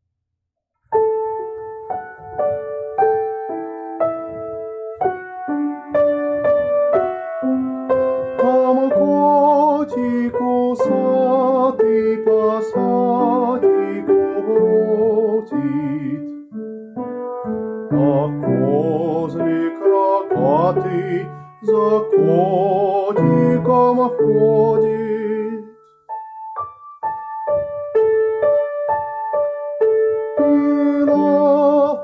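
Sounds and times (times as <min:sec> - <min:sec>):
piano melody over chords: 0:00.8 - 0:32.0.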